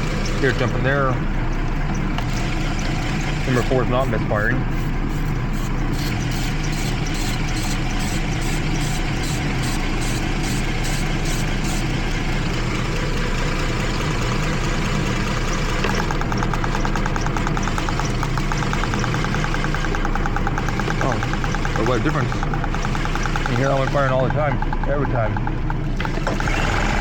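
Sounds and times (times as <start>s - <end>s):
car engine idling with misfires: 0.0s - 27.0s.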